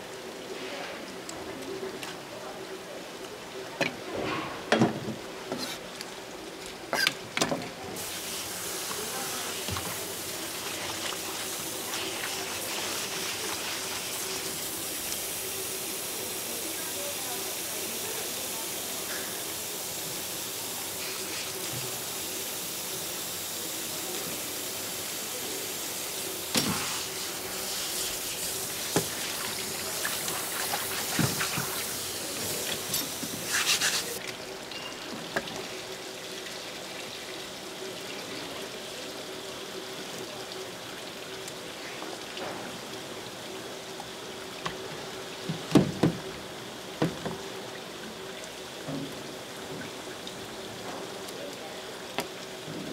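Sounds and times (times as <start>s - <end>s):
water running: 0.0s - 52.9s.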